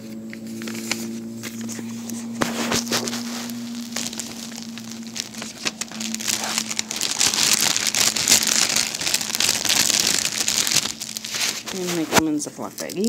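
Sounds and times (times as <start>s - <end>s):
plastic bags crinkling and clicking: 0.0s - 13.0s.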